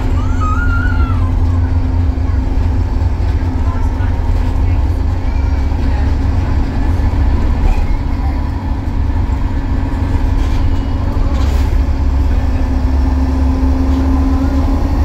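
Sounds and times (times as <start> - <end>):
bus diesel engine rumbling: 0.0 - 15.0.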